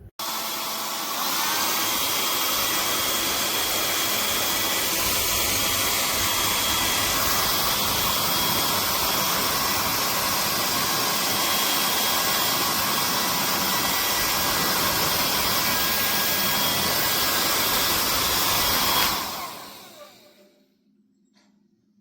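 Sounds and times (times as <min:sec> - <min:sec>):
hair dryer running: 0:00.0 - 0:20.5.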